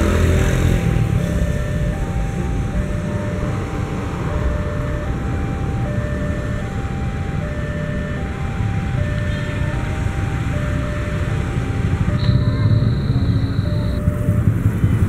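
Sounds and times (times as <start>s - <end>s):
diesel locomotive rumble: 0.0s - 15.0s
two-tone crossing alarm: 0.0s - 15.0s.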